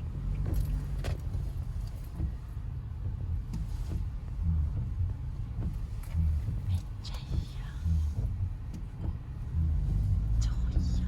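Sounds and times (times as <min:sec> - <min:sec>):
car moving slowly: 0:00.0 - 0:11.0.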